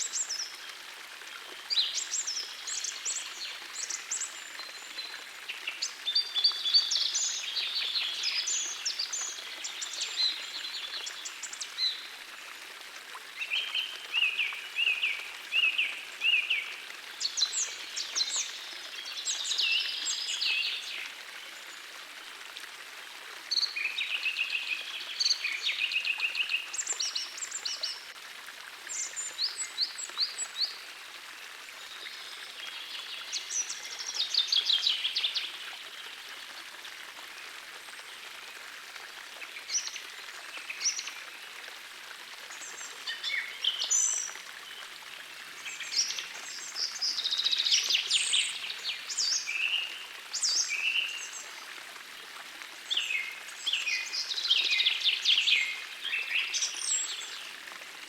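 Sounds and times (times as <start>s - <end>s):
gently flowing stream: 0.0s - 58.0s.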